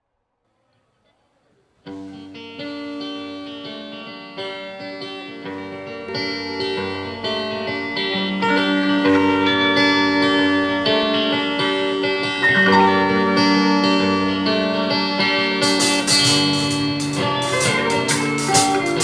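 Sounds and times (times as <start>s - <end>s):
live band guitar chords: 1.9s - 19.0s.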